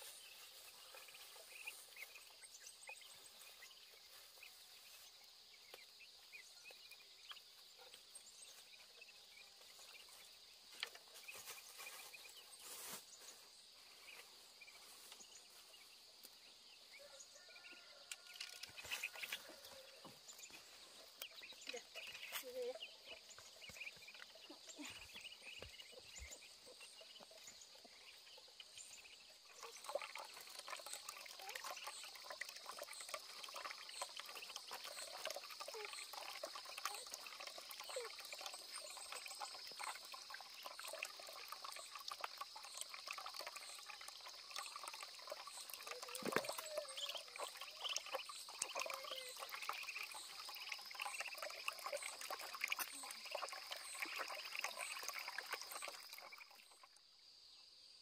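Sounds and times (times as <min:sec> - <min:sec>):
water pouring and splashing: 0:00.0 - 0:07.4, 0:08.2 - 0:15.8, 0:16.6 - 0:57.0
insects chirping: 0:00.0 - 0:58.0.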